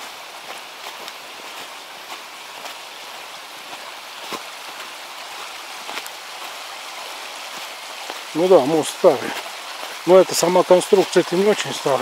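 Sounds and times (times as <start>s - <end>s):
footsteps crunching in snow: 0.0s - 12.0s
water rushing over waterfall: 0.0s - 12.0s.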